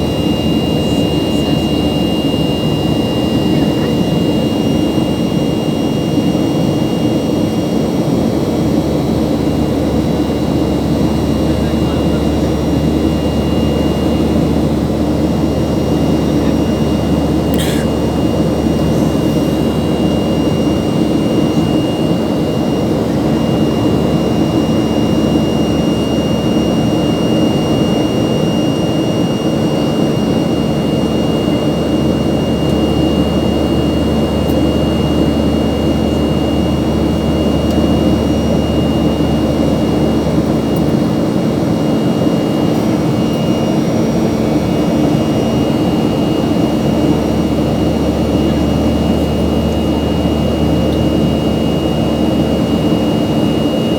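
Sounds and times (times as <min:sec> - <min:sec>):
vehicle engine drone: 0:00.0 - 0:05.5, 0:08.6 - 0:27.6, 0:30.2 - 0:53.9.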